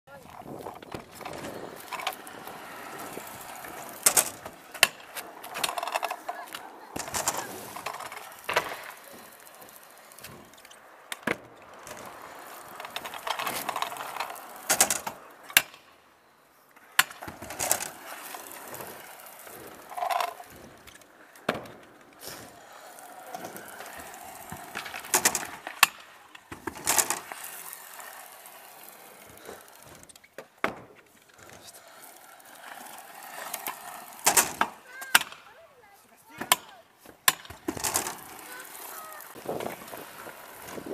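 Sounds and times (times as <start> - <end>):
scooter wheels rolling on asphalt: 0.0 - 40.9
scooter deck clacking on ground: 0.1 - 15.9, 16.8 - 40.9.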